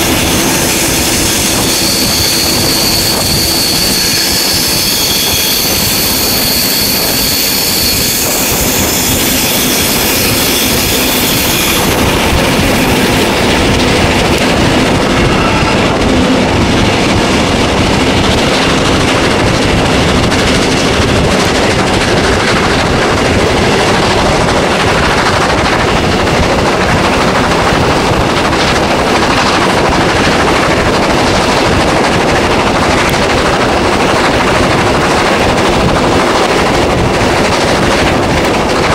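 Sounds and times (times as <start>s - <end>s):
steam locomotive exhaust beats: 0.0s - 38.9s
wheels rumbling on rail: 0.0s - 38.9s.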